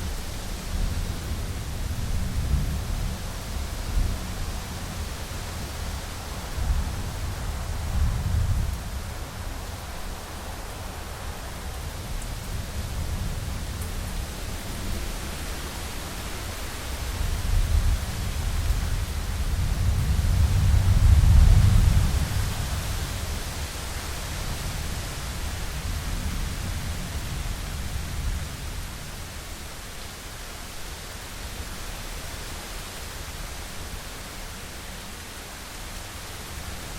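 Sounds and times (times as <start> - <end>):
heavy rain on a window: 0.0 - 36.9.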